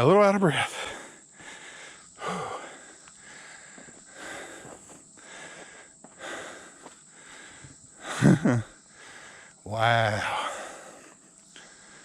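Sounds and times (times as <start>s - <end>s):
man breathing heavily: 0.6s - 12.0s.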